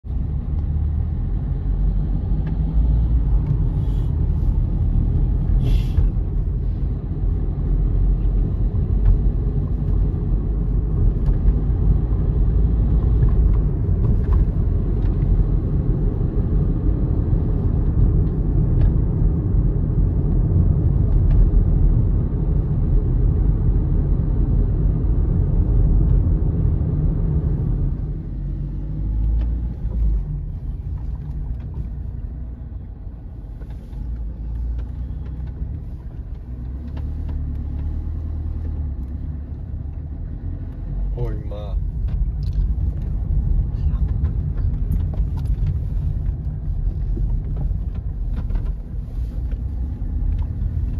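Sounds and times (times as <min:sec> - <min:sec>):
road and engine rumble: 0:00.0 - 0:50.9.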